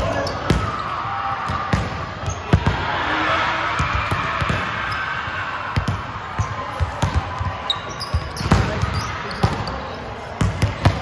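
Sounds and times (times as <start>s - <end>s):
background hubbub: 0.0s - 11.0s.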